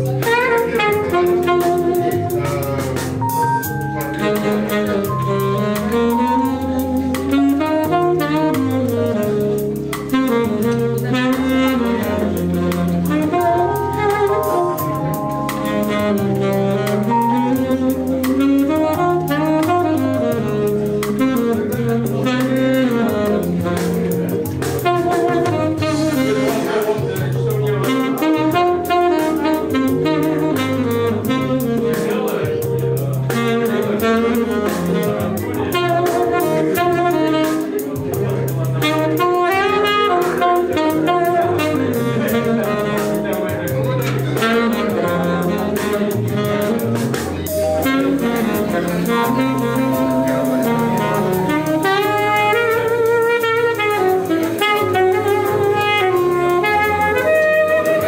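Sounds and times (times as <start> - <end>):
alto saxophone melody: 0.0 - 58.0
backing track with bass and beat: 0.0 - 58.0.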